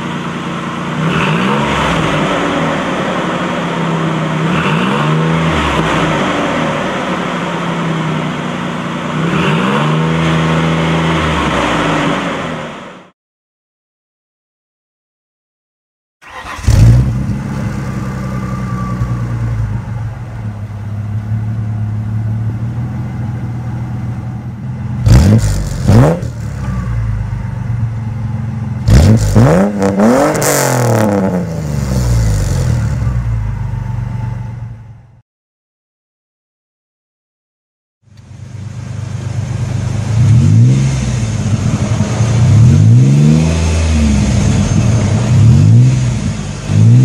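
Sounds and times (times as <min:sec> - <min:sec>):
car engine idling and revving: 0:00.0 - 0:13.1, 0:16.2 - 0:35.2, 0:38.1 - 0:47.0.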